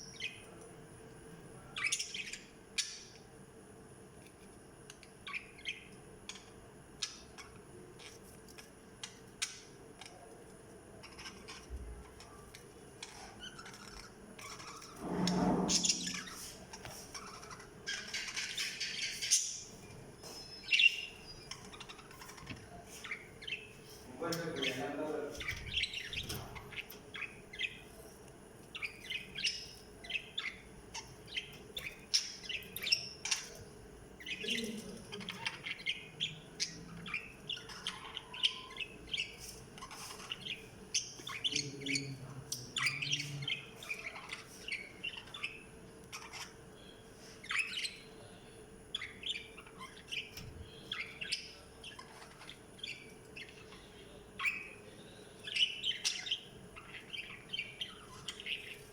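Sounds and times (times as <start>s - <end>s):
budgerigars chirping: 0.0s - 0.6s, 1.6s - 3.2s, 5.0s - 10.3s, 10.9s - 58.9s.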